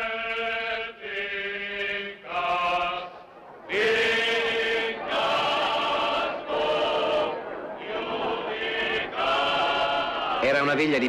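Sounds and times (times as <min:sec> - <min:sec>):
group chanting a hymn: 0:00.0 - 0:10.9.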